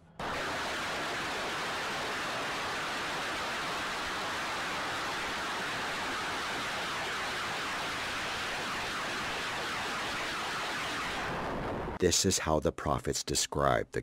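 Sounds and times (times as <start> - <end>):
rocket exhaust roar: 0.0 - 12.0.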